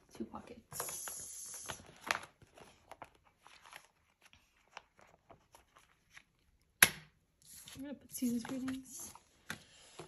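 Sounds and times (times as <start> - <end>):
plastic pages rustling and crinkling: 0.2 - 6.7, 7.4 - 10.0.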